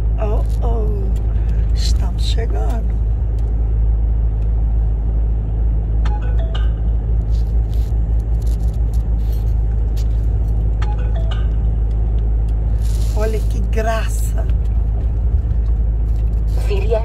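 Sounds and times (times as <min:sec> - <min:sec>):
lorry engine drone: 0:00.0 - 0:17.0.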